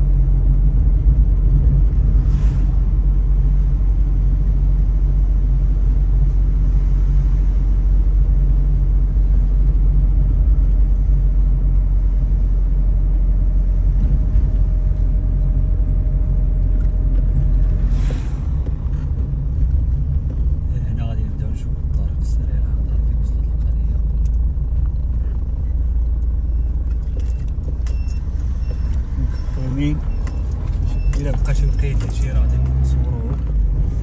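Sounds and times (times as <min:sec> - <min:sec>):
car driving on road: 0:00.0 - 0:34.0.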